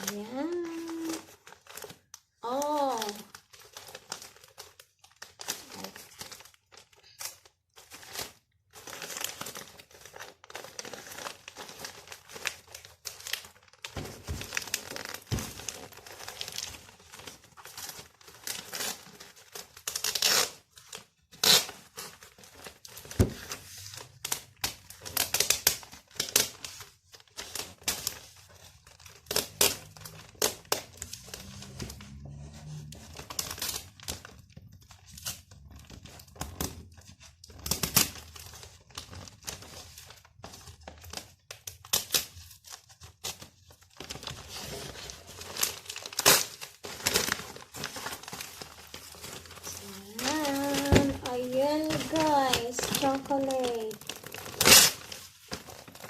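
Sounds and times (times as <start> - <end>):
wrapping paper ripping and crinkling: 0.0 - 56.0.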